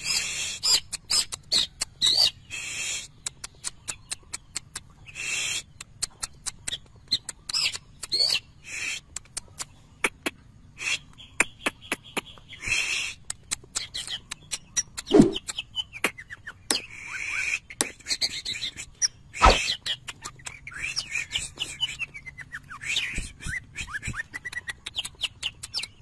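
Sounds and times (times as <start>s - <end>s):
bird singing: 0.0s - 5.6s, 6.7s - 26.0s.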